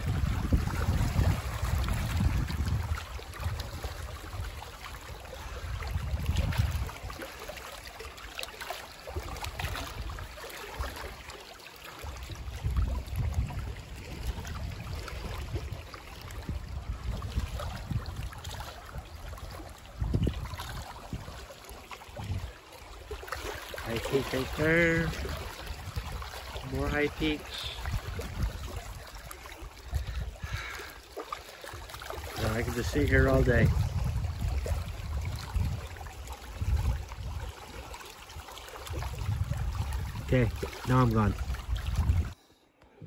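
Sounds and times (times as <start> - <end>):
wind rumbling on microphone: 0.0 - 7.3, 9.2 - 11.2, 12.0 - 31.0, 31.6 - 43.0
small waves lapping: 0.0 - 43.0.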